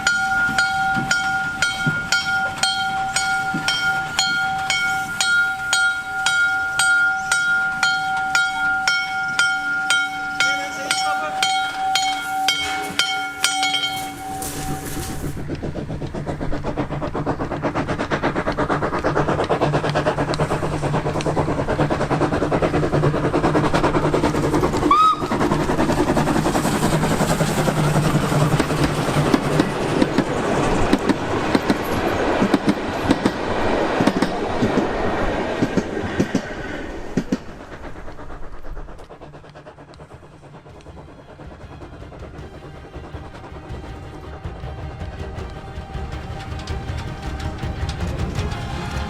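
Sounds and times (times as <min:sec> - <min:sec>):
train clattering on rails: 0:00.0 - 0:49.0.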